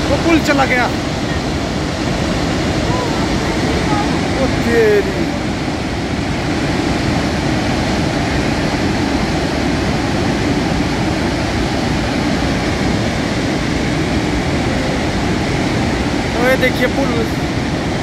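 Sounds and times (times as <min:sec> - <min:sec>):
flood torrent roaring: 0:00.0 - 0:18.0.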